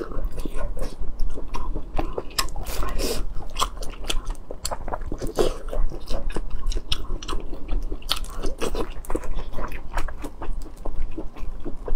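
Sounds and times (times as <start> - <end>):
person chewing food: 0.0 - 11.9.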